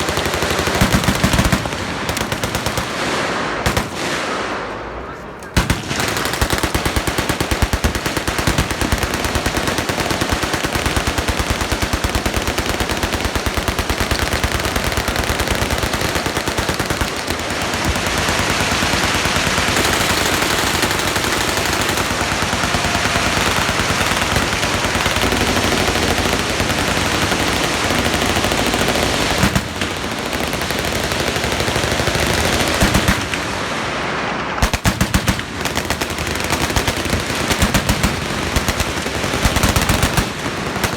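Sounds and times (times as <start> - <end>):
machine guns firing full-auto: 0.0 - 40.9.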